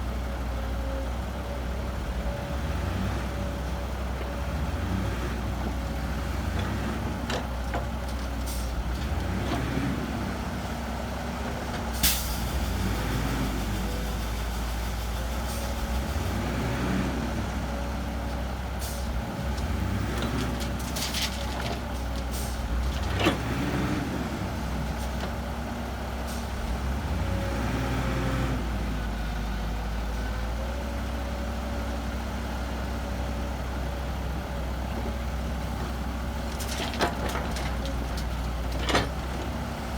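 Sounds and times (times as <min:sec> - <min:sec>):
heavy diesel engines working: 0:00.0 - 0:39.9.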